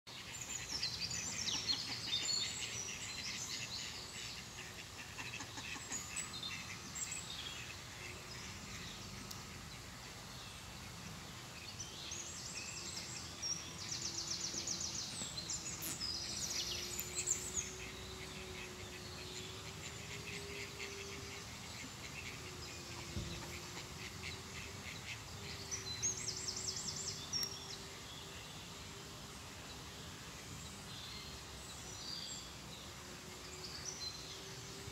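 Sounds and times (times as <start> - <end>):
low background noise: 0.1 - 34.9
songbirds chirping and trilling: 0.1 - 34.9.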